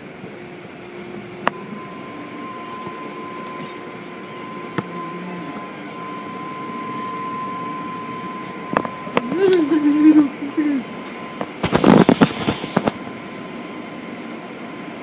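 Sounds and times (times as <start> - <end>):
faint steady high tone: 1.3 - 15.0.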